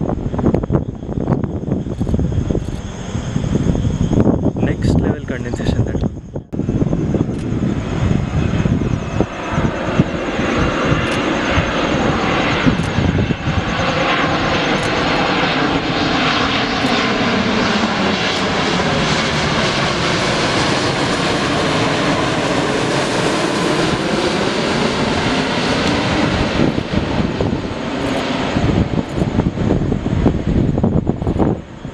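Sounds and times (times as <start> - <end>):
jet airliner engine roar: 0.0 - 31.9.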